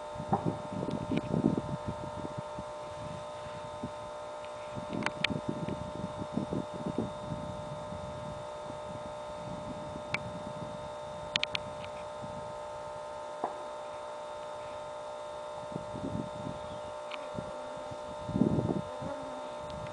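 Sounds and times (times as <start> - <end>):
electronic hum: 0.0 - 19.9.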